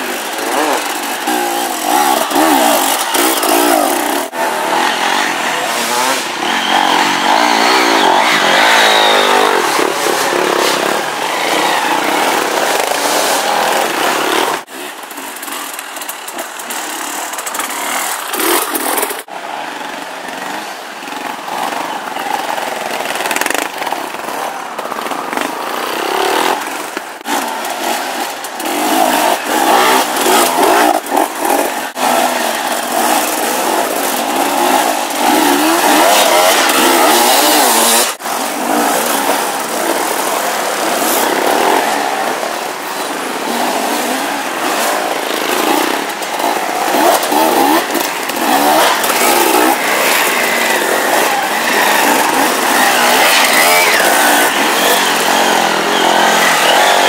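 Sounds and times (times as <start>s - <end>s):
motorcycles revving: 0.0s - 57.0s.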